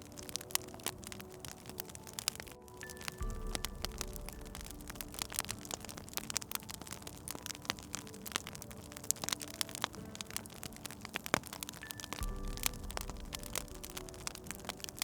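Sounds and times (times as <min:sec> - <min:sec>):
soft held musical tones: 0:00.0 - 0:15.0
wood fire crackling: 0:00.0 - 0:15.0.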